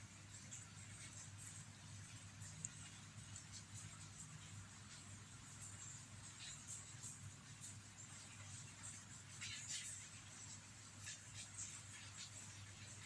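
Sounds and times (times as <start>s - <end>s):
soft ticks: 0.4s - 12.6s.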